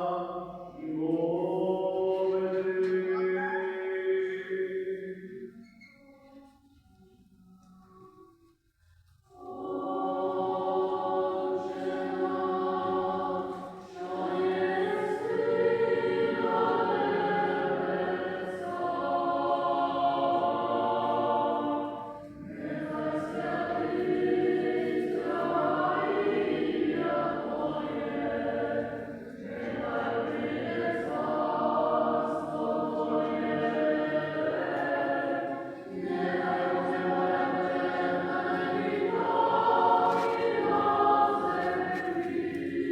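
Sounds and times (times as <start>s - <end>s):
choir singing a chant: 0.0s - 5.6s, 9.3s - 42.9s.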